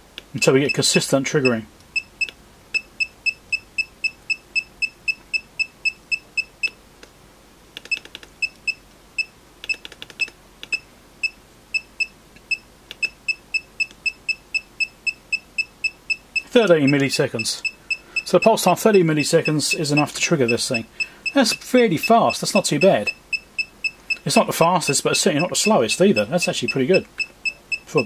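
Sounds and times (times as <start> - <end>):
multimeter short high beeps: 0.6 - 6.8, 7.9 - 24.2, 24.8 - 28.0.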